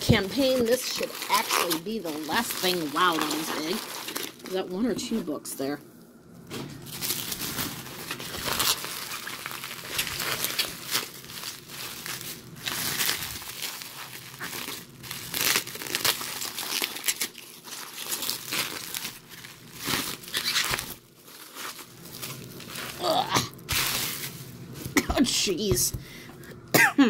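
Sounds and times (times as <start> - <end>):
bubble wrap crinkling: 0.0 - 6.2, 6.8 - 26.0.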